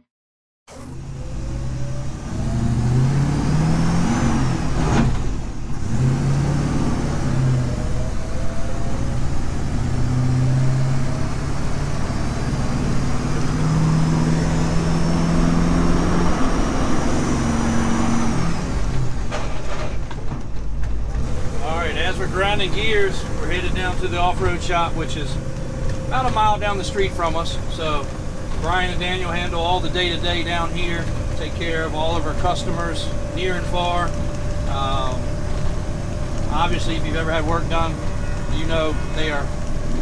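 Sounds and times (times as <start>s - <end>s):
truck engine shifting gears: 0.7s - 40.0s.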